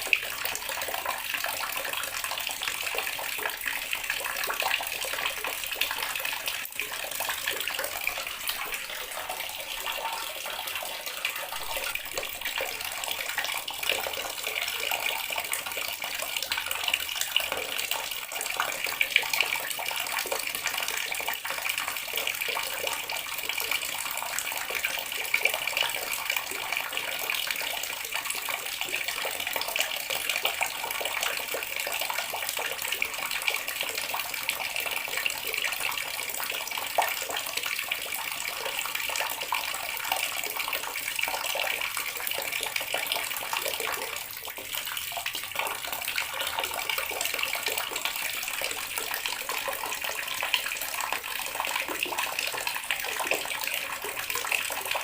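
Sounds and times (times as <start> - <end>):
tap water splashing into basin: 0.0 - 55.0.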